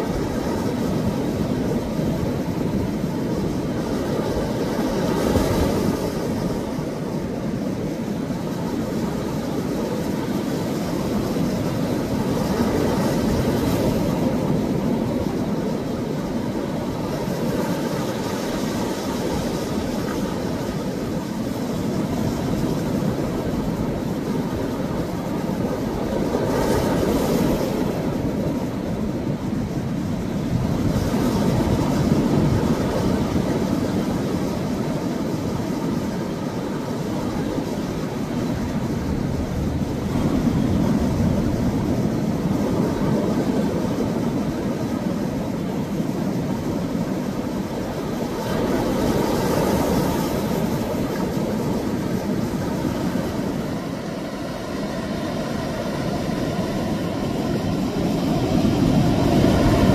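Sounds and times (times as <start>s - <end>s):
waves breaking on rocks: 0.0s - 59.9s.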